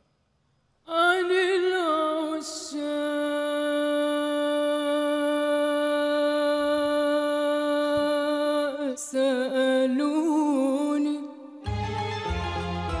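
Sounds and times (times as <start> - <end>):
girl singing unaccompanied: 0.9 - 11.6.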